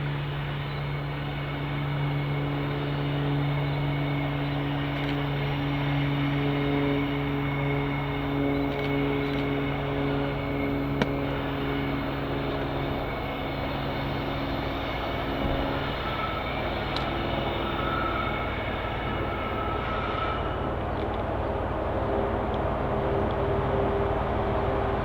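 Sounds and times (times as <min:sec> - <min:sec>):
diesel locomotive engine running: 0:00.0 - 0:25.0.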